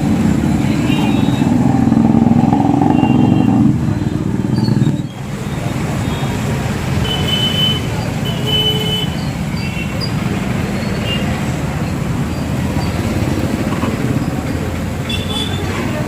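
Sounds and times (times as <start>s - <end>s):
road traffic engines: 0.0s - 16.0s.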